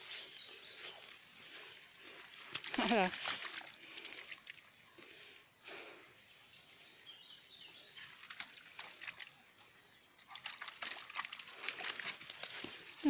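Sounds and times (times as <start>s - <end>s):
paws splashing in mud: 0.0s - 5.4s, 7.7s - 13.0s.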